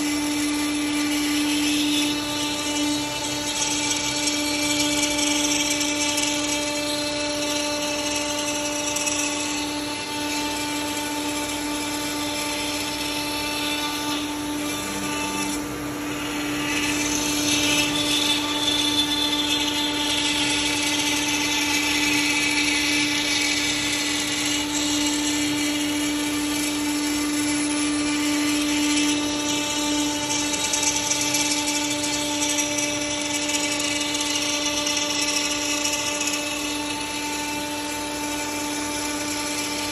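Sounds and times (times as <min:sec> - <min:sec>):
bit cutting wood: 0:00.0 - 0:39.9
router spindle high whine: 0:00.0 - 0:39.9.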